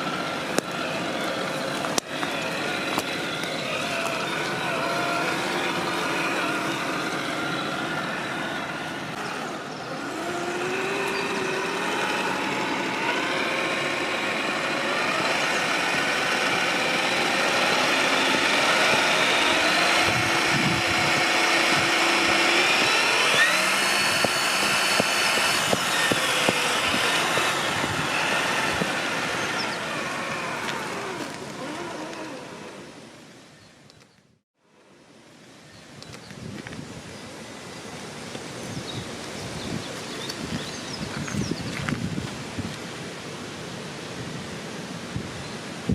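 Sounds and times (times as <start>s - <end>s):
electric motor and gearbox whining: 0.0s - 34.3s, 36.0s - 43.2s.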